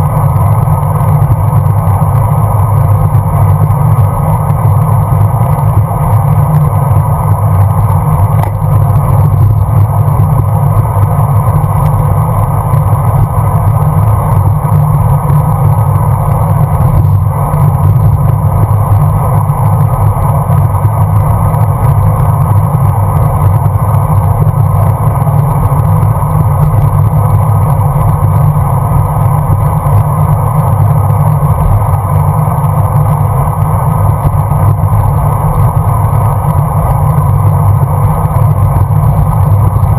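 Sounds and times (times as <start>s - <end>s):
road noise: 0.0s - 39.9s
wind rumble: 0.0s - 39.9s.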